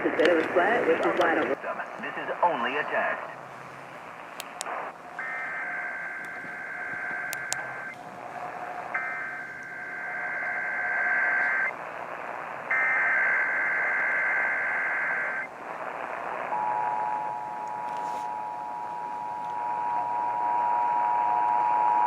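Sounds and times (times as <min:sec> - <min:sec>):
radio hiss: 0:00.0 - 0:21.3.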